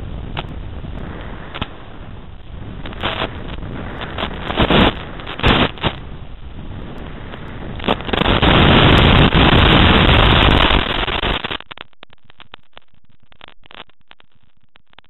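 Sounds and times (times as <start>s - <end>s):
faint sputtering crackles: 0.0s - 15.0s
radio static hiss: 0.0s - 15.0s.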